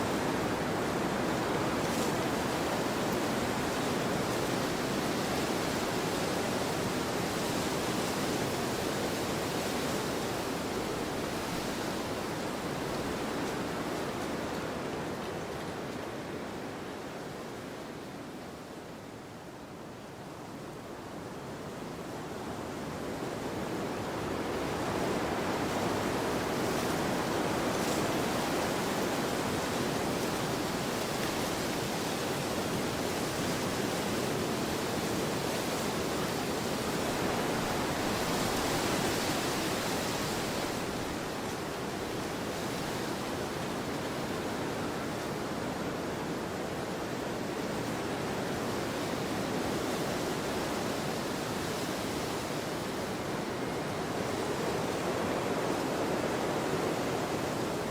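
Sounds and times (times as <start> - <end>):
wind blowing across a field: 0.0 - 57.9.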